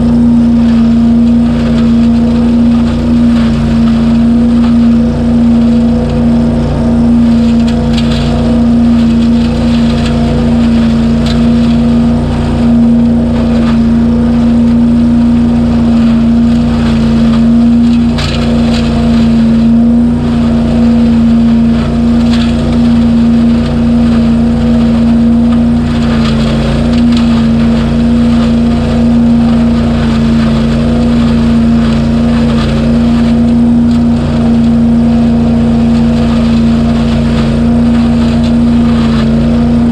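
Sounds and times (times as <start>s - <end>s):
debris loader engine running: 0.0s - 39.9s
debris rattling: 0.0s - 39.9s.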